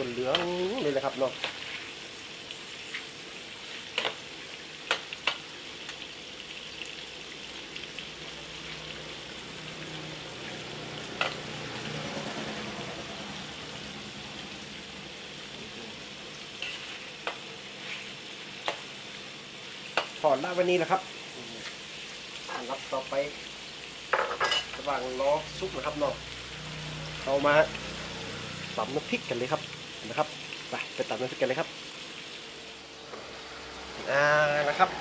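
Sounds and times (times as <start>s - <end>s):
meat sizzling in hot oil: 0.0s - 35.0s.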